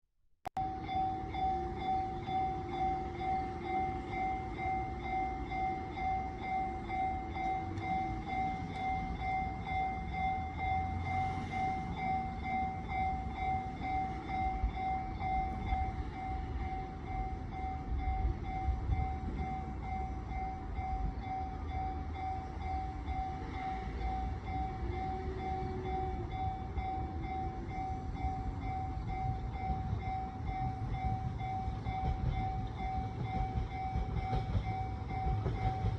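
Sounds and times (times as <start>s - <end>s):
level crossing alarm ringing: 0.6s - 35.9s
train rumble approaching: 0.6s - 35.9s.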